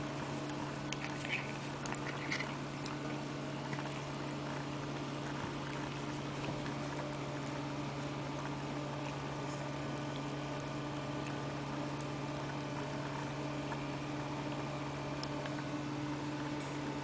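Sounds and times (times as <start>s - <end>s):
cat chewing: 0.0s - 17.0s
steady low hum: 0.0s - 17.0s.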